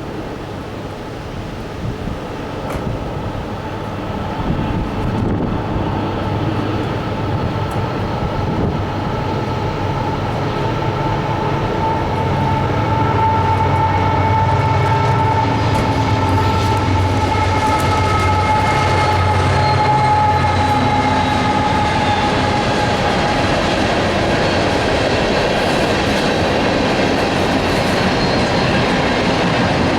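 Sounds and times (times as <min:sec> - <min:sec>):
diesel locomotive engine rumble: 0:00.0 - 0:29.9
steady high whine: 0:02.2 - 0:29.9.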